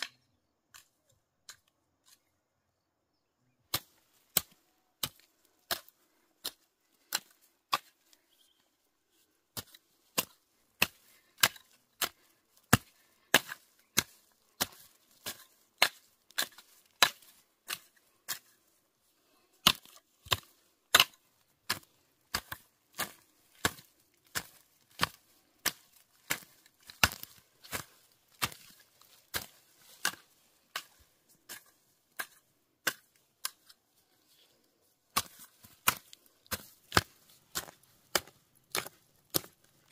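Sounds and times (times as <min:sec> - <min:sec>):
hoe chopping into dry soil: 0:03.7 - 0:08.2, 0:09.5 - 0:18.7, 0:19.6 - 0:33.9, 0:35.1 - 0:39.9.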